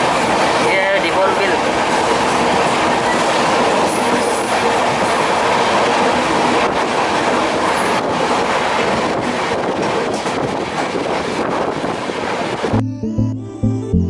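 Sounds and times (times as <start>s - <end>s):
train wheels on rails: 0.0s - 12.7s.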